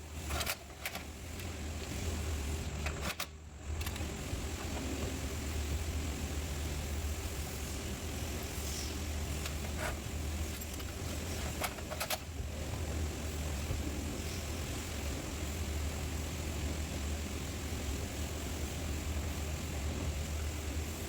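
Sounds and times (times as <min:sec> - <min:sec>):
low motor hum: 0:01.2 - 0:21.0.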